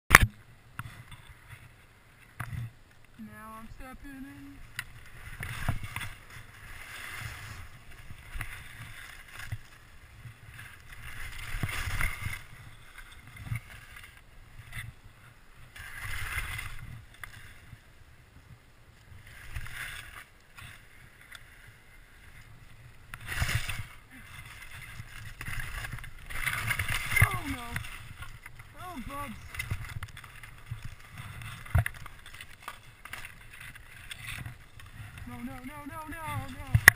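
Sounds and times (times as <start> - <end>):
skis scraping over snow: 0.8 - 36.9.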